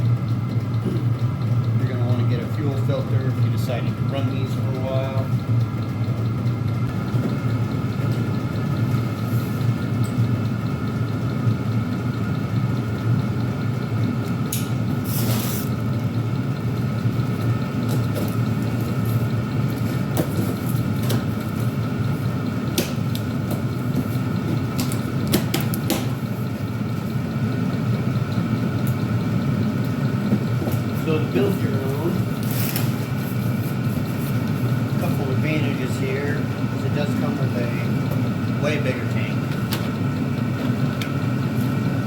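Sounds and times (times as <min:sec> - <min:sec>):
air heater blower drone: 0:00.0 - 0:42.0
fan whine: 0:00.0 - 0:42.0.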